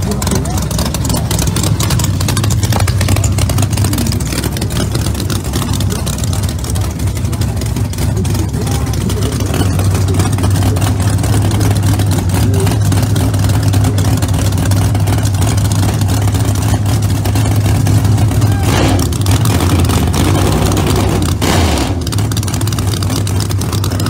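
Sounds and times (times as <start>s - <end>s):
race car engine idling: 0.0s - 24.0s.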